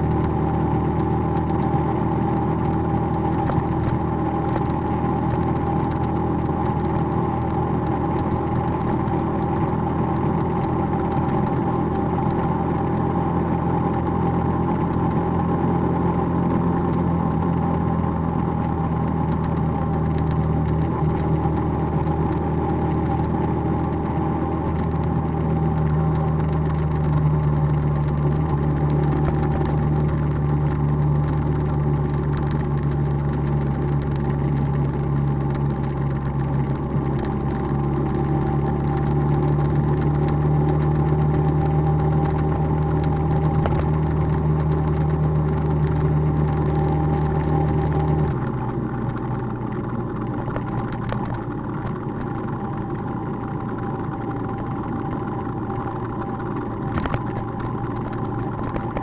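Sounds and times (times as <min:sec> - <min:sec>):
motorcycle engine running: 0:00.0 - 0:59.0
wind and road rush: 0:00.0 - 0:59.0.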